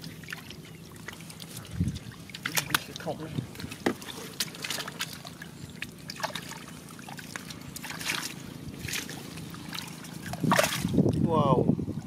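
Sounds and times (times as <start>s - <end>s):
hands splashing in muddy water: 0.0s - 11.0s.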